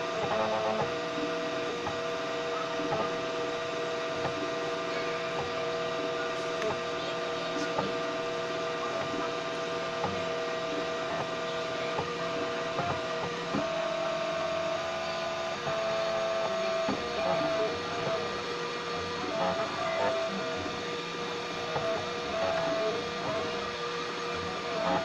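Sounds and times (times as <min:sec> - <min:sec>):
stepper motors humming: 0:00.0 - 0:25.0.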